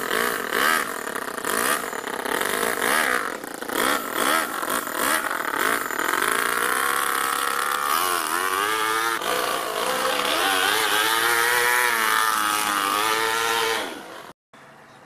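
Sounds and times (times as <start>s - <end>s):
small nitro engine revving: 0.0s - 14.4s.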